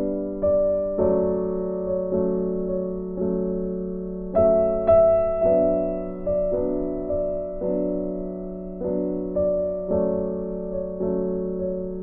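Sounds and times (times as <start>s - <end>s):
gentle piano piece: 0.0s - 12.0s.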